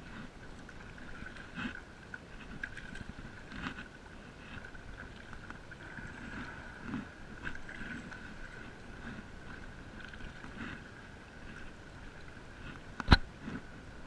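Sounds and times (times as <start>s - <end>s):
paddle splashing through water: 0.0s - 14.0s.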